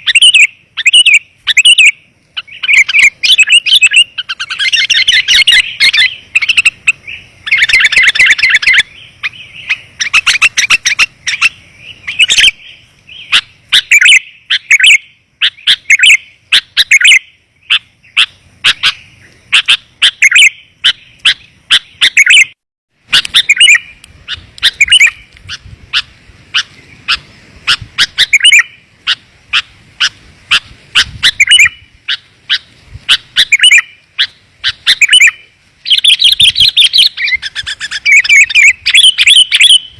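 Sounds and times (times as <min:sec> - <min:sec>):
bird chirping calls: 0:00.0 - 0:39.9.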